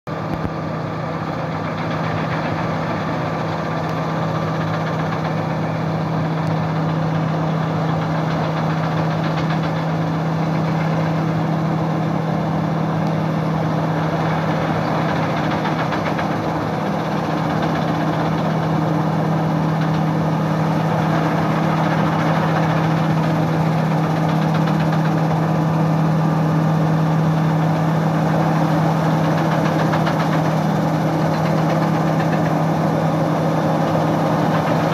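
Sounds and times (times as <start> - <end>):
diesel engine hum: 0.1 - 34.9
rattling mechanical noise: 0.1 - 34.9.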